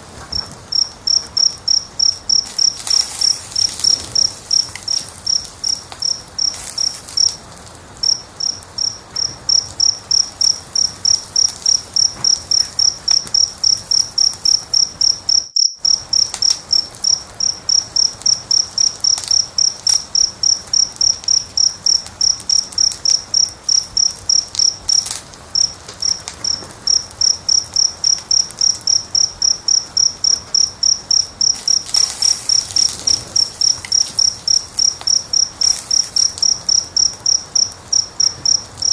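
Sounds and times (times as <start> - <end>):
wood fire crackling: 0.0 - 38.9
cricket chirping: 0.2 - 38.9.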